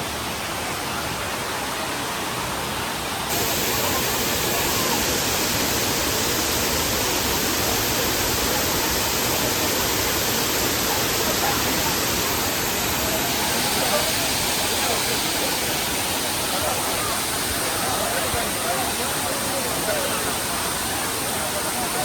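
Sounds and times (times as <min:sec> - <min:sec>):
waterfall pouring: 0:03.3 - 0:22.0.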